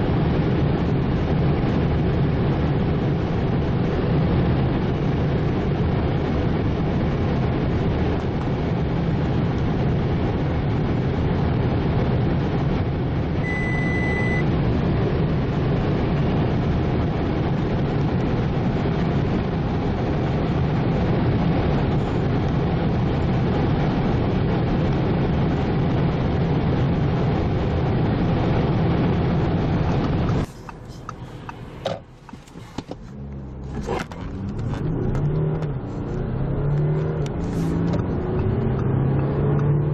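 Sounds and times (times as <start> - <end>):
diesel engine running hard: 0.0 - 39.9
road noise: 0.0 - 39.9.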